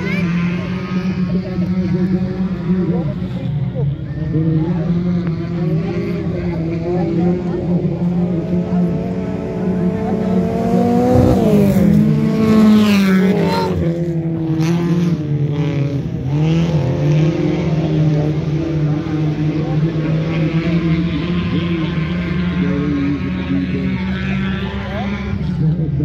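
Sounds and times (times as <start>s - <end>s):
race car engines running hard: 0.0s - 26.0s
race car passing close: 4.1s - 26.0s.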